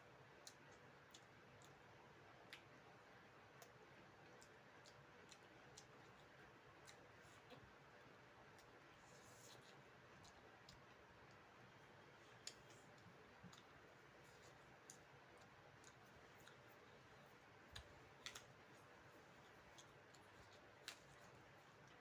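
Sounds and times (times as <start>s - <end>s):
chewing clicks and mouth noises: 0.3s - 2.9s, 3.5s - 7.7s, 9.5s - 11.4s, 12.4s - 22.0s.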